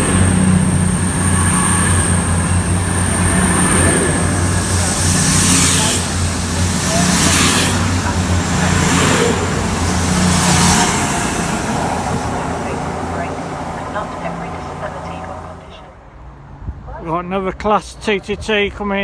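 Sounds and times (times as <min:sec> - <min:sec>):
diesel train engines droning: 0:00.0 - 0:19.0
rushing of passing train cars: 0:00.0 - 0:19.0.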